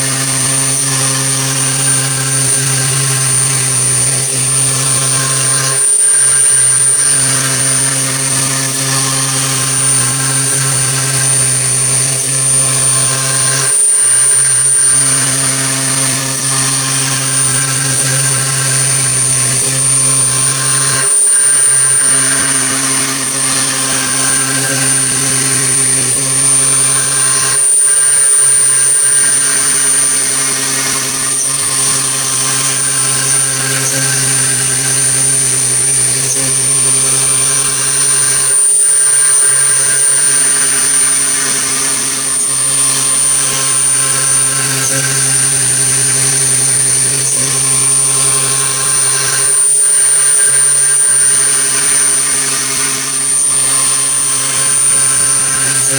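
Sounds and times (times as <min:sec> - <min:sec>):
high-pitched whine: 0:00.0 - 0:55.9
machine mechanical drone: 0:00.0 - 0:55.9.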